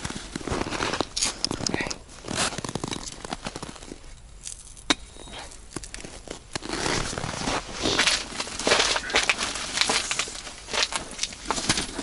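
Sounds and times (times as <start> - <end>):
scratchy rustling: 0.0 - 4.1, 5.9 - 12.0.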